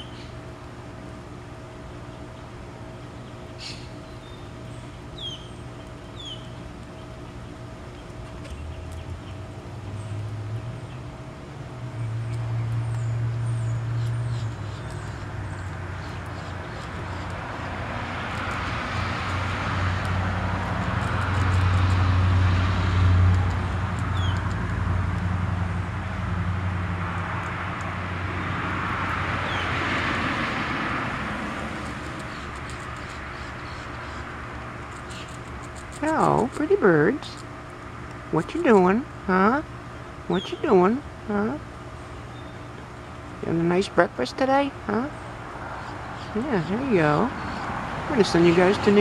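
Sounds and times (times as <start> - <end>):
low engine hum: 0.0 - 49.0
vehicles passing: 0.0 - 49.0.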